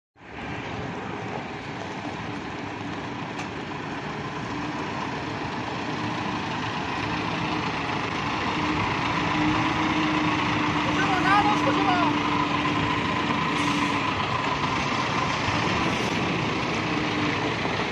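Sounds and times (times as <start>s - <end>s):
diesel truck engine humming: 0.2s - 17.9s.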